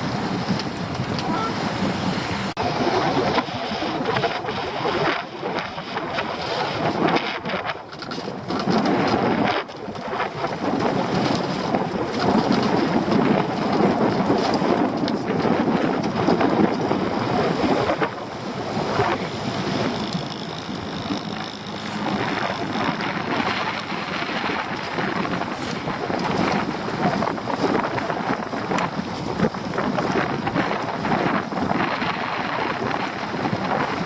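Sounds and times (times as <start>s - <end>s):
sea noise: 0.0s - 34.0s
wind buffeting microphone: 0.0s - 34.0s.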